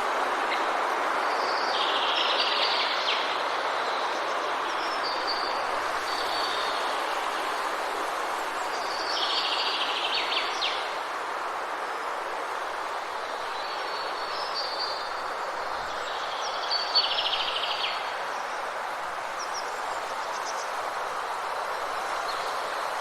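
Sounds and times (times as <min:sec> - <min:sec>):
steady rushing hiss: 0:00.0 - 0:23.0.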